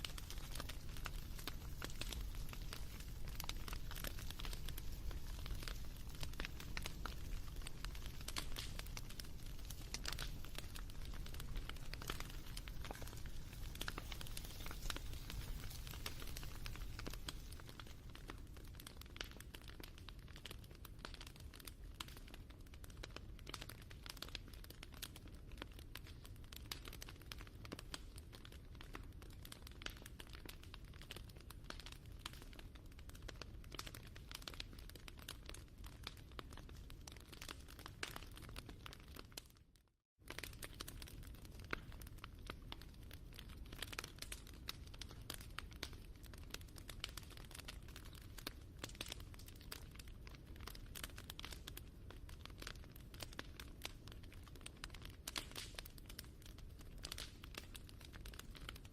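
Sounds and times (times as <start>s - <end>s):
wood fire crackling: 0.0s - 39.6s, 40.2s - 58.9s.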